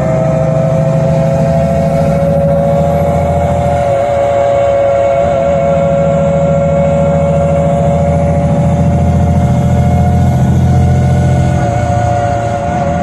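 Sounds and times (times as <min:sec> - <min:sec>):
bus engine drone: 0:00.0 - 0:13.0
high whine: 0:00.0 - 0:13.0.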